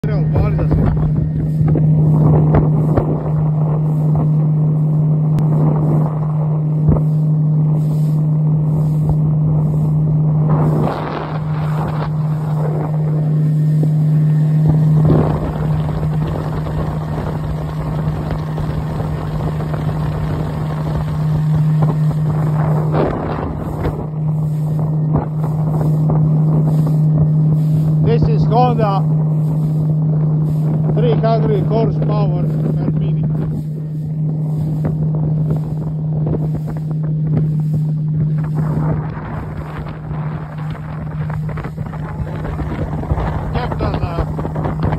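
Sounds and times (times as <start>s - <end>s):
motorboat engine droning: 0.0s - 44.9s
water rushing past hull: 0.0s - 44.9s
wind gusts on microphone: 0.0s - 44.9s.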